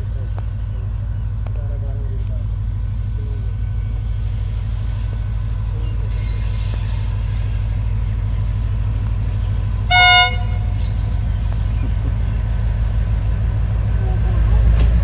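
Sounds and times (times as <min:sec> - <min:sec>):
low rumble of running train: 0:00.0 - 0:15.0.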